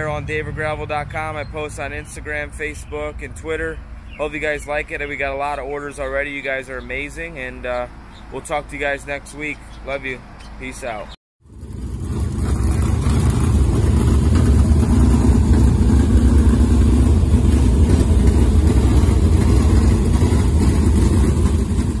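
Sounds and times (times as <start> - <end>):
deep engine running: 0.0 - 8.2, 11.4 - 22.0.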